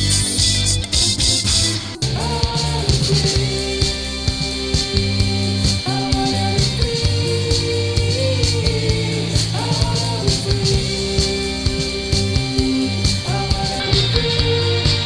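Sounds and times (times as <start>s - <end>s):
rock music with guitars: 0.0s - 15.0s.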